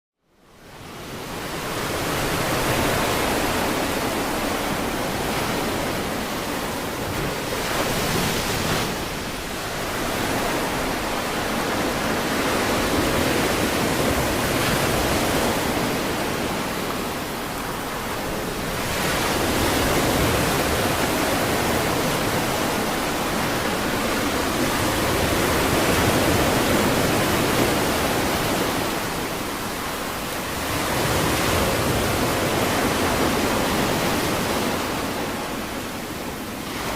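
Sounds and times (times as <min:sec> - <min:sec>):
ocean surf breaking: 0:00.7 - 0:36.9.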